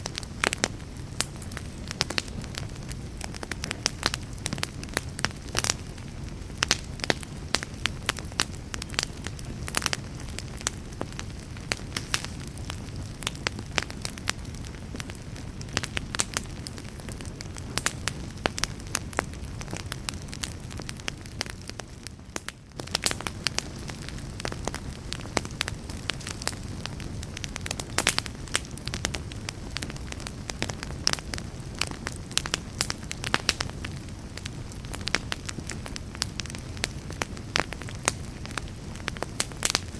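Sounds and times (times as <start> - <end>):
campfire crackling and popping: 0.0 - 39.9
low rumble of flame: 0.0 - 39.9.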